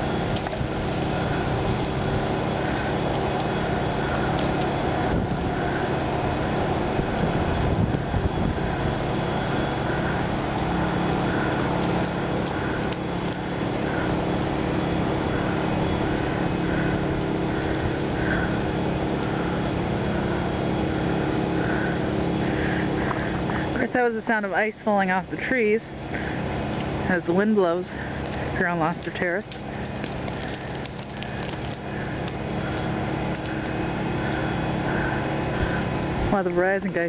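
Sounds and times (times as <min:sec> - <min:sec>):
generators humming: 0:00.0 - 0:37.0.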